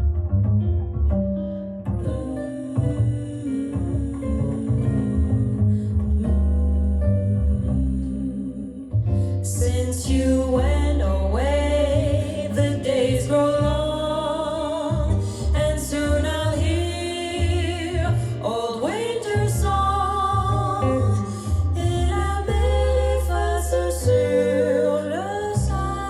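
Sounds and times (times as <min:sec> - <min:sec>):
deep sustained bass notes: 0:00.0 - 0:26.0
person singing with wavering notes: 0:02.0 - 0:26.0.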